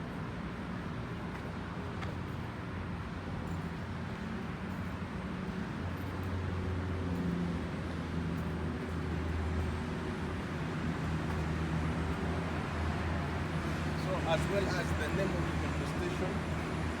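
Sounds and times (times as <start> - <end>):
traffic rushing noise: 0.1 - 17.0.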